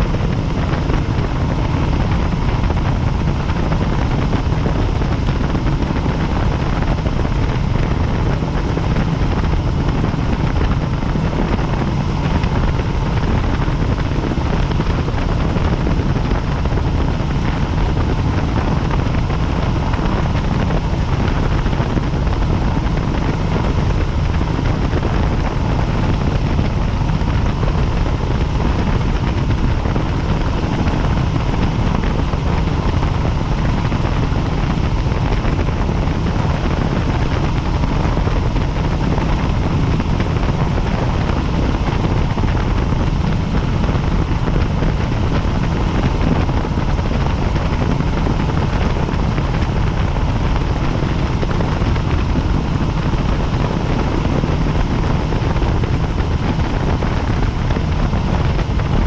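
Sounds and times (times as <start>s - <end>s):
faint steady whine: 0.0s - 59.0s
helicopter rotor and engine drone: 0.0s - 59.0s.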